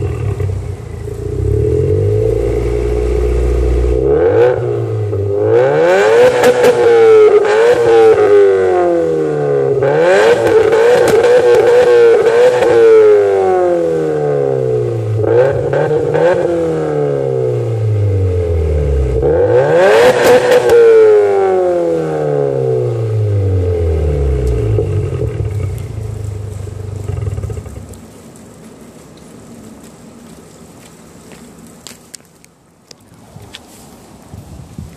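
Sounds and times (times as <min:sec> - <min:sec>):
engine exhaust revving: 0:00.0 - 0:28.0.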